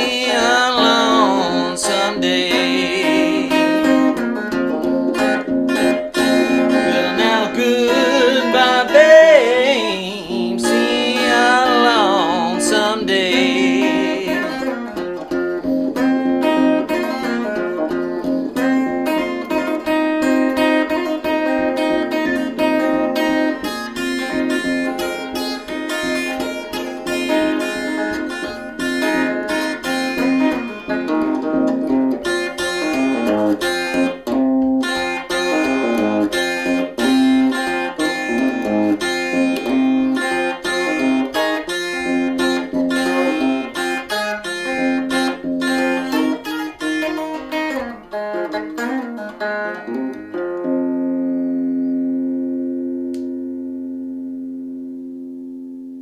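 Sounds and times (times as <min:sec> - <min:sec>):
acoustic guitar blues: 0:00.0 - 0:53.8.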